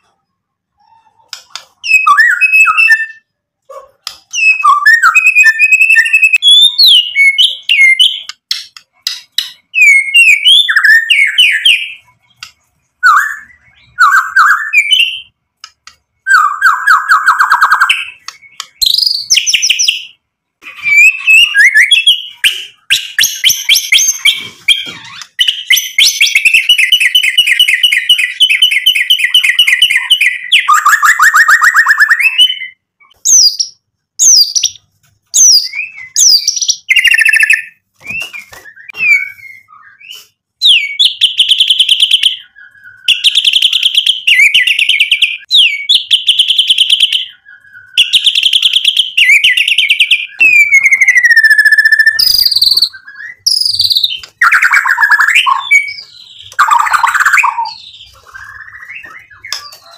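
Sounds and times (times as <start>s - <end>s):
songbird singing trills and whistles: 0.8s - 59.9s.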